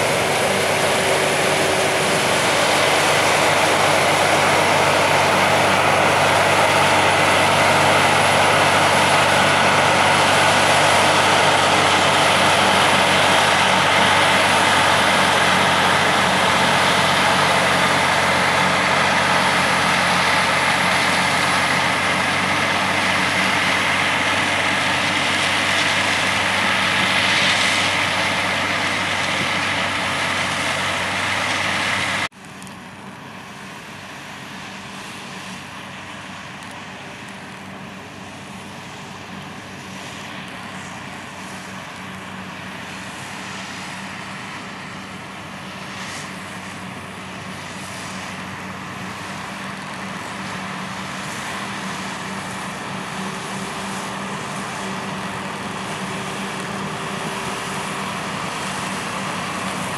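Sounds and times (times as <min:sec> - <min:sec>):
loud machinery drone: 0:00.0 - 0:59.9.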